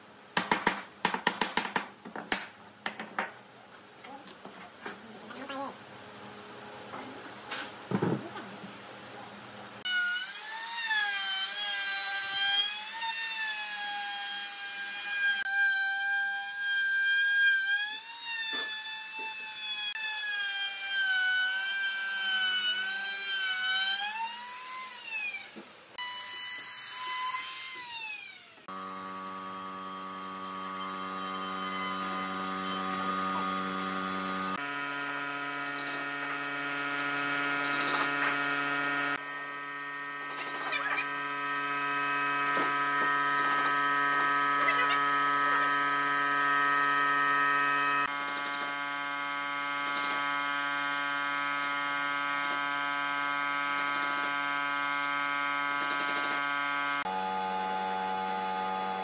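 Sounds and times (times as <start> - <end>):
router cutting wood: 9.8 - 59.0.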